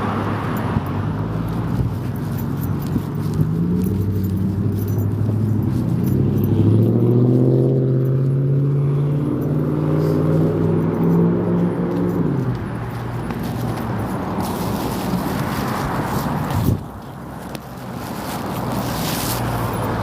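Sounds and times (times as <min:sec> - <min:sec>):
vehicle engine accelerating: 0:00.0 - 0:20.0.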